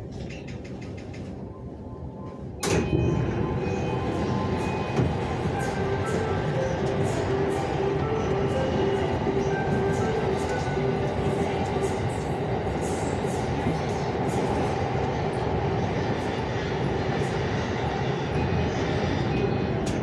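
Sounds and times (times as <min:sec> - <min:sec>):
train wheels rumbling: 0:02.6 - 0:20.0.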